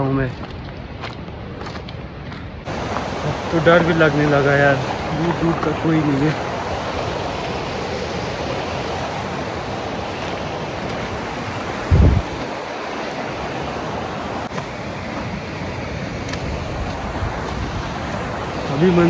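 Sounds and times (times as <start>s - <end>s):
stream white water rushing: 2.7s - 19.0s.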